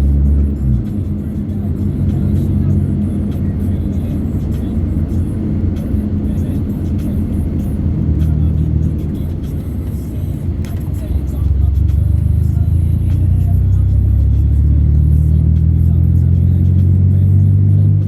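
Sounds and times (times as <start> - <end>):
music playing: 0.0 - 18.0
vehicle engine and road noise: 0.0 - 18.0.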